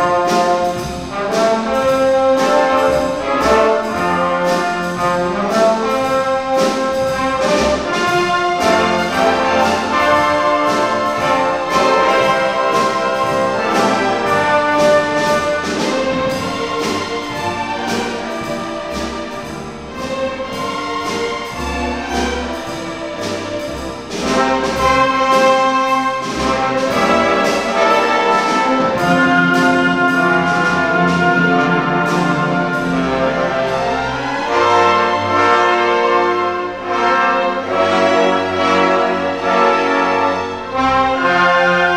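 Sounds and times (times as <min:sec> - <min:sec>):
orchestra with brass playing: 0:00.0 - 0:41.9
steady drum beat: 0:00.0 - 0:41.9.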